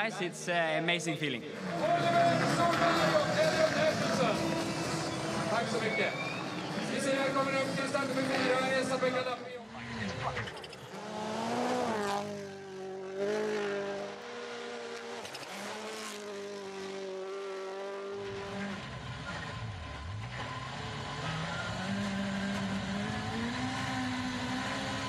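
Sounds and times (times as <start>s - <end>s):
rally car engine at full throttle: 1.4s - 25.0s.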